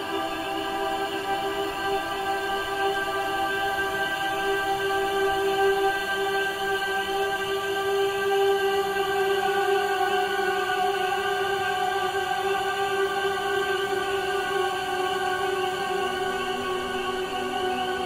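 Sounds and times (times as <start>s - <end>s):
held chord with choir drone: 0.0s - 18.0s.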